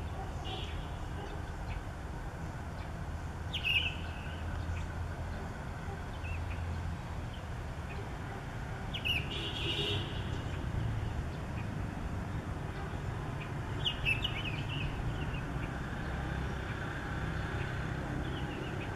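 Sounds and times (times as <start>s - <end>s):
distant traffic rumble: 0.0s - 18.9s.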